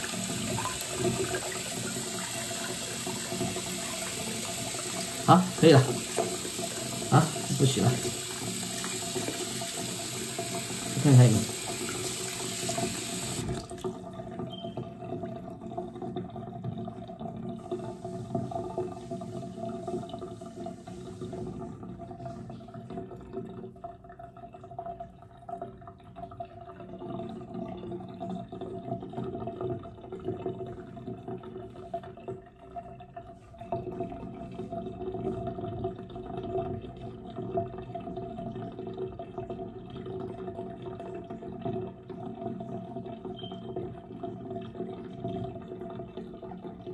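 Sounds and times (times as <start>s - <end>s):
water splashing in a sink: 0.0s - 46.9s.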